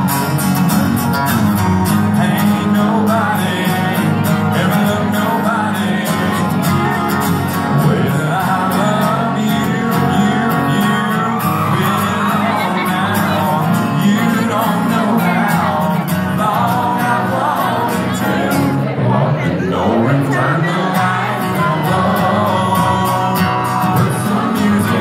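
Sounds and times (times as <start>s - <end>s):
male lead vocal: 0.0s - 25.0s
strummed acoustic guitar: 0.0s - 25.0s.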